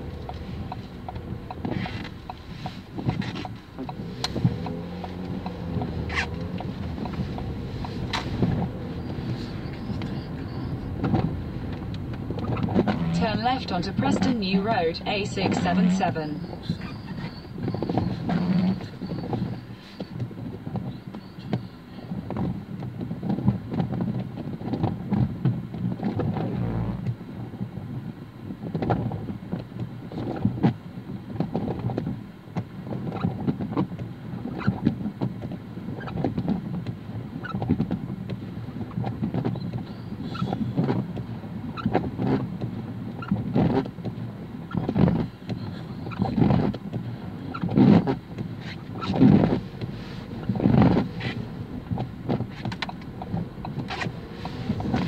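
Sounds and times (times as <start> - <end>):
rain knocks and taps: 0.0 - 15.7, 16.5 - 55.0
low car cabin hum: 0.0 - 55.0.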